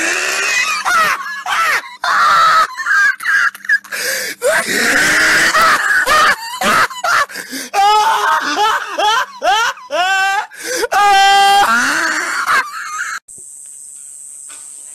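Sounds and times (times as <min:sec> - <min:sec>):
person crying out harshly: 0:00.0 - 0:13.2.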